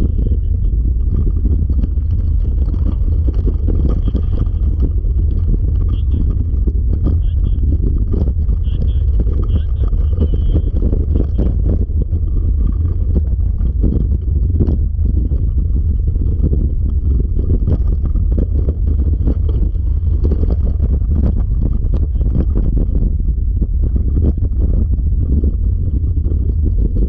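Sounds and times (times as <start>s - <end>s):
low rumble of wheels: 0.0s - 27.0s
small rattles and clicks: 0.0s - 27.0s
wind on microphone: 0.0s - 27.0s.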